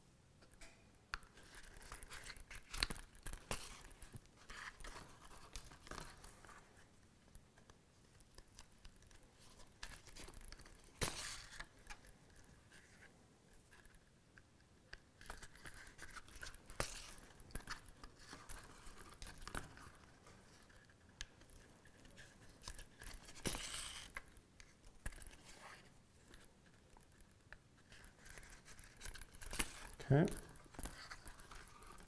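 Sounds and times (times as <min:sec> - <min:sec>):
small clicks and rustles: 0:00.4 - 0:32.0.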